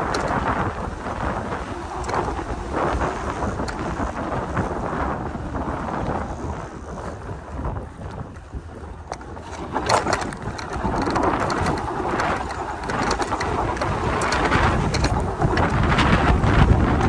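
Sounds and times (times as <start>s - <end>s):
bike clattering over bumps: 0.0s - 17.0s
tyres rumbling on dirt: 0.0s - 17.0s
wind buffeting microphone: 0.0s - 17.0s.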